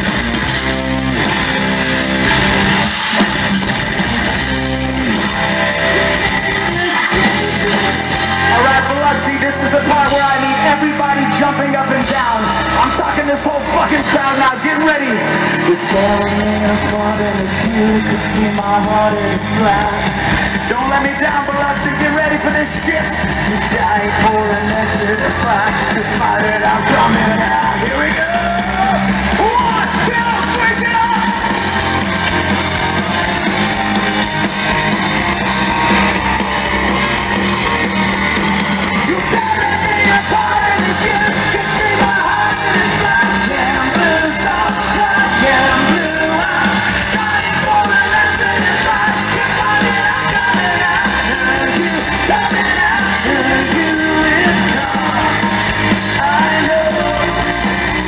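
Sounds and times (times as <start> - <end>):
vocals: 0.0 - 36.4, 37.1 - 58.0
bass guitar: 0.0 - 58.0
drums: 0.0 - 58.0
electric guitar: 0.0 - 58.0.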